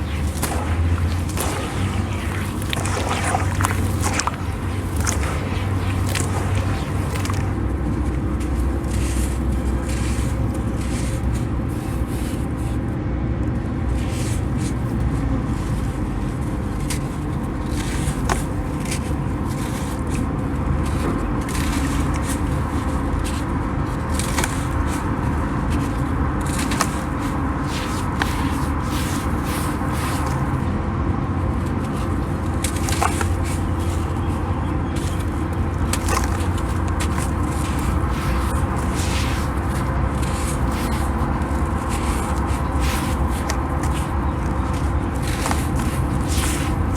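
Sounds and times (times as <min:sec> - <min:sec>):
sand clumps crumbling: 0:00.0 - 0:12.7, 0:16.6 - 0:30.6, 0:31.8 - 0:46.9.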